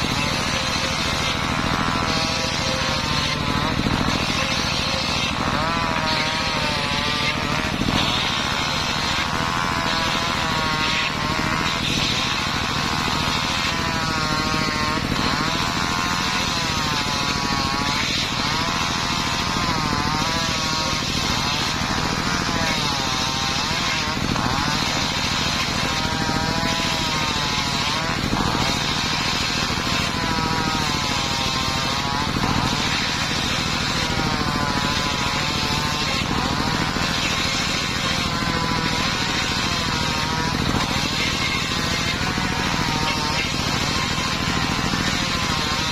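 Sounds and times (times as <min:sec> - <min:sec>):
circular saw cutting wood: 0:00.0 - 0:45.9.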